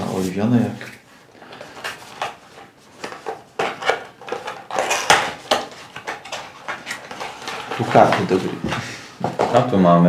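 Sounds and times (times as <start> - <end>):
packaging rustling and clicking: 1.4 - 9.8.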